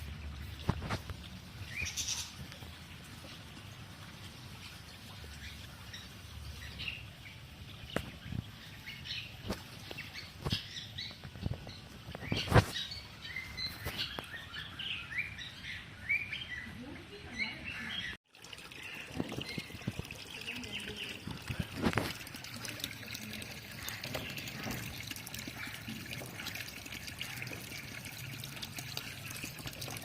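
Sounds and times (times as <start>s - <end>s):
birds chirping: 1.6s - 3.5s, 4.5s - 30.0s.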